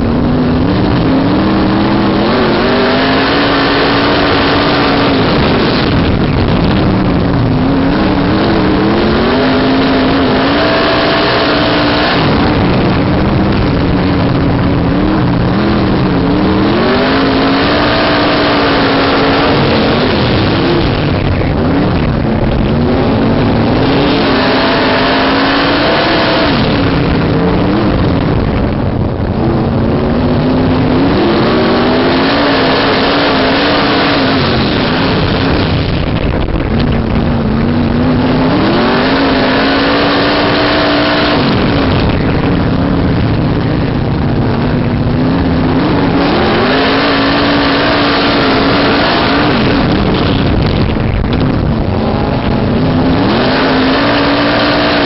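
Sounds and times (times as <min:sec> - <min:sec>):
racing car engine revving: 0:00.0 - 0:55.0
wind rushing: 0:00.0 - 0:55.0.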